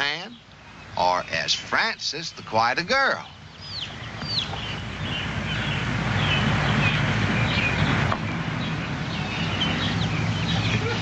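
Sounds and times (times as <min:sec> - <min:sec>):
short chirping calls: 0:00.0 - 0:11.0.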